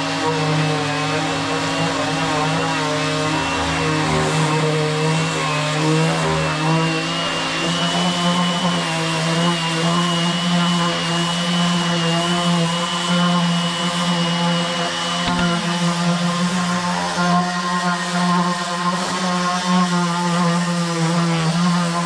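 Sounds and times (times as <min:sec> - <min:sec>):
dust extractor whine: 0:00.0 - 0:22.0
electric sander on wood: 0:00.0 - 0:22.0.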